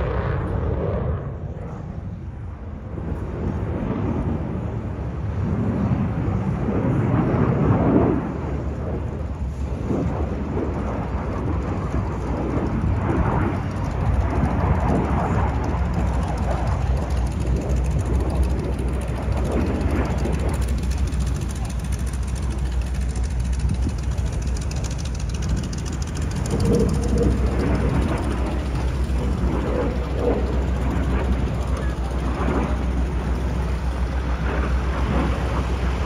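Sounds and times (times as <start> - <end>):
jet flying past: 0.0 - 36.0.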